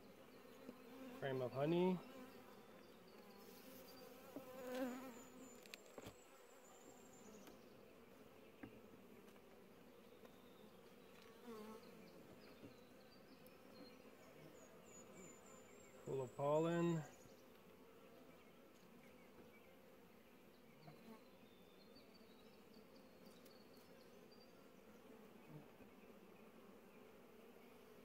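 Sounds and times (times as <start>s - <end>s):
honeybees humming: 0.0s - 28.0s.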